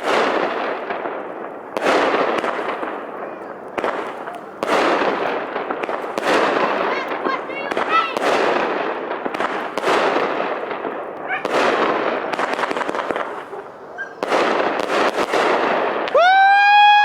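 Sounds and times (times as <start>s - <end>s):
crackling firework bursts: 0.0s - 17.0s
firework shots: 0.0s - 17.0s.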